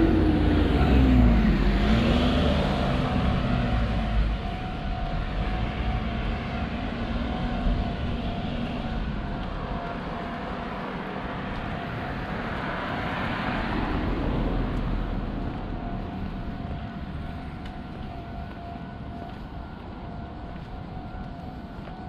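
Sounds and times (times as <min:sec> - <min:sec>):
vehicle passing: 0:00.0 - 0:18.8
road traffic rumble: 0:00.0 - 0:22.0.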